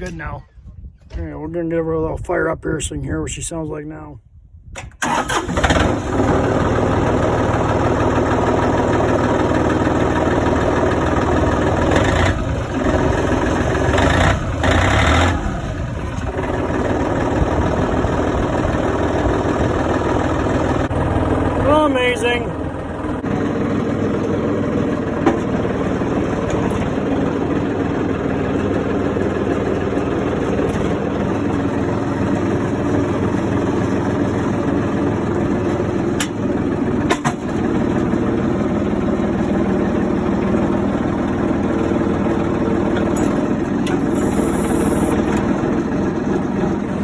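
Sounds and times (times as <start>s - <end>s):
diesel tractor engine running: 5.0s - 47.0s.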